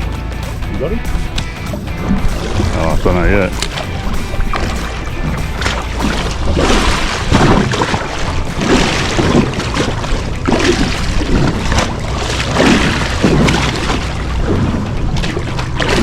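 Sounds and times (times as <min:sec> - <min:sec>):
water slapping against hull: 0:00.0 - 0:16.0
wind buffeting microphone: 0:00.6 - 0:16.0.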